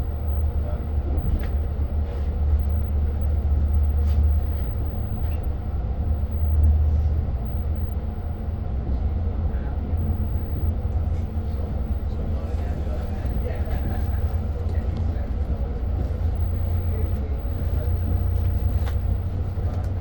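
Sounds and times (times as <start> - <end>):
train coach rumble: 0.0 - 20.0.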